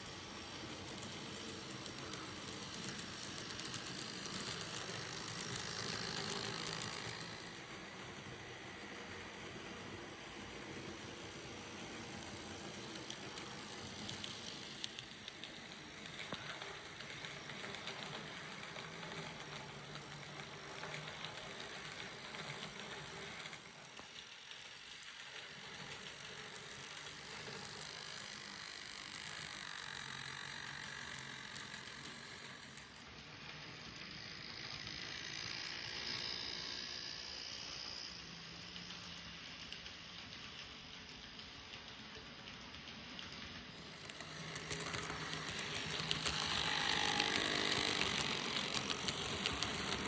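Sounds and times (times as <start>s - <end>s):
model train motor whirring: 0.0s - 50.0s
wheels clicking on rails: 0.0s - 50.0s.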